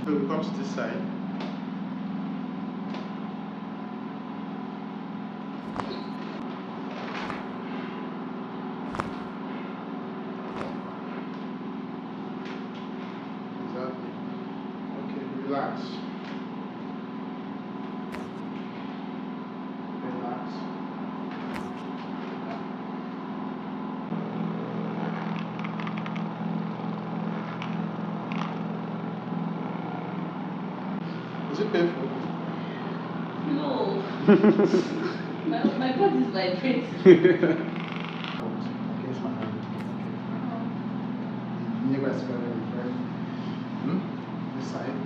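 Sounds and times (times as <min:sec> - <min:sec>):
low machine hum: 0:00.0 - 0:45.0.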